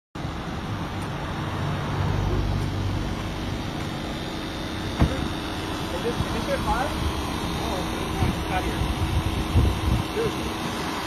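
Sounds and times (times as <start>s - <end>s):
engine humming steadily: 0.2s - 11.0s.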